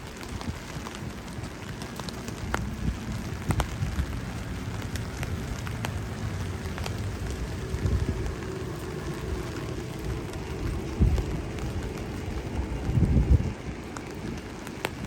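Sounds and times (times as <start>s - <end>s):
raindrops ticking: 0.0s - 15.0s
wind rumbling: 0.0s - 15.0s.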